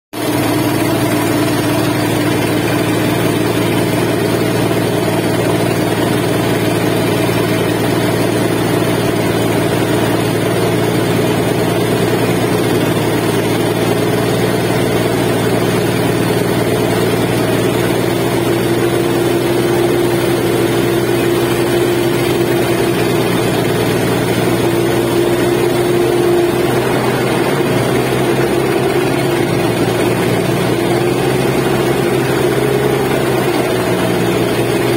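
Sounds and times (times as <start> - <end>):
boat engine humming: 0.2 - 34.9.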